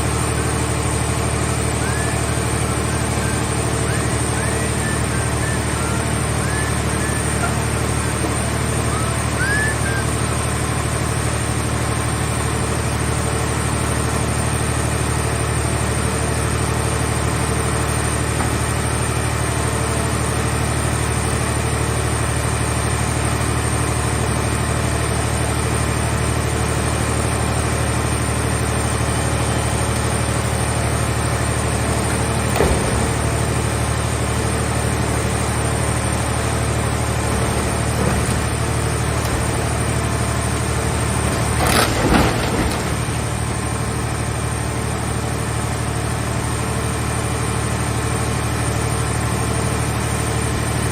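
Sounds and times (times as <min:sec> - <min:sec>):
engine droning: 0:00.0 - 0:50.9.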